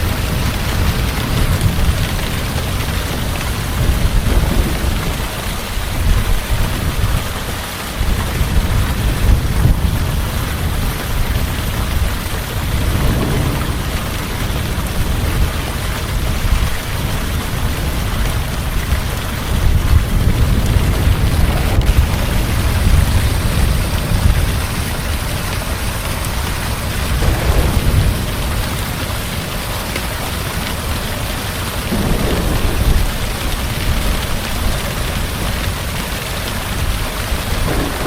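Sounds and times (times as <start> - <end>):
heavy rain falling: 0.0 - 38.0
low thunder rumbling: 0.0 - 38.0.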